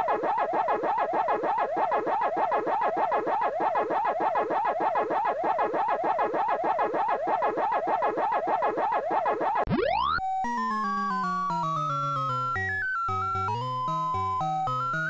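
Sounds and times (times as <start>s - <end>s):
electronic game sound effect: 0.0s - 12.1s.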